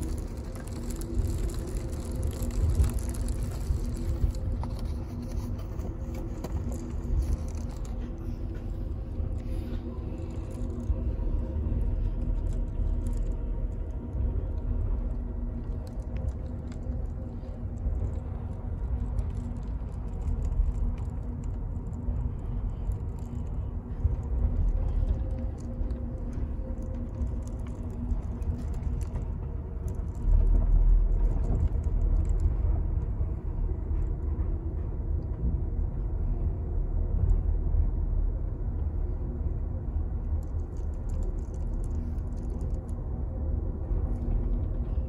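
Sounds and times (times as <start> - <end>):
constant hum: 0.0 - 45.0
train rumble: 0.0 - 45.0.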